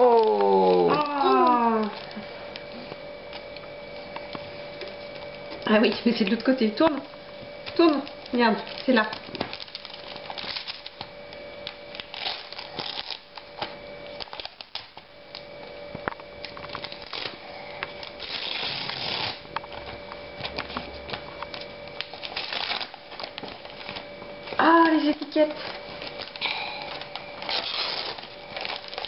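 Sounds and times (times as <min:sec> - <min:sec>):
wrapping paper crinkling and tearing: 0:00.0 - 0:06.5, 0:07.6 - 0:15.5, 0:16.4 - 0:29.0.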